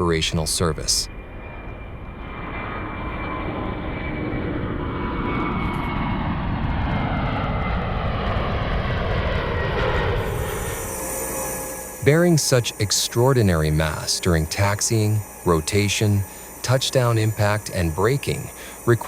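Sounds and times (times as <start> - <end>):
engine whine falling in pitch: 0.0 - 19.0
jet engines running: 0.0 - 19.0.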